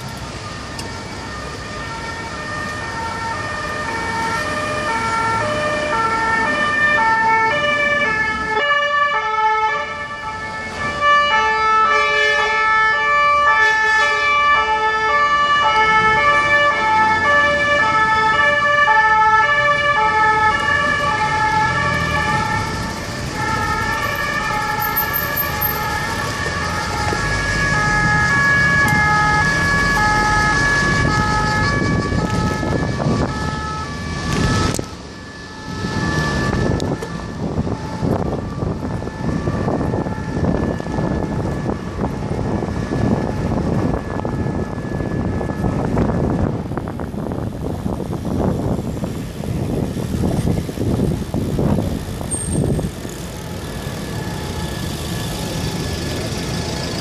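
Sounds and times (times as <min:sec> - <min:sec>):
motor traffic: 0:00.0 - 0:57.0
two-tone emergency siren: 0:00.0 - 0:57.0.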